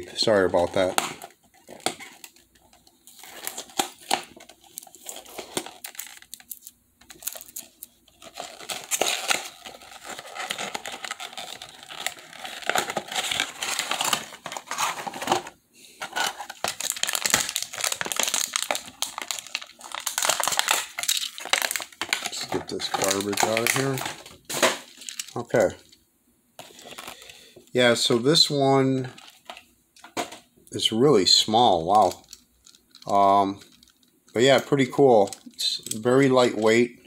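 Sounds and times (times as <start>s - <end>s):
plastic crinkling: 0.0s - 26.0s, 31.6s - 36.8s.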